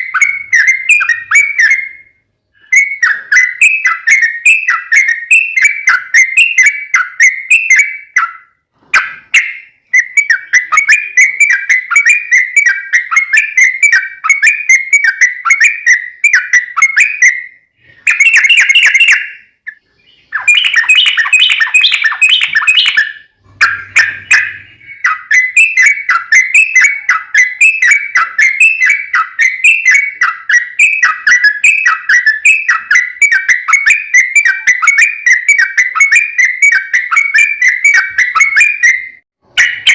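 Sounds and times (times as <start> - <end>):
bird song of rapid whistled notes: 0.0 - 39.9.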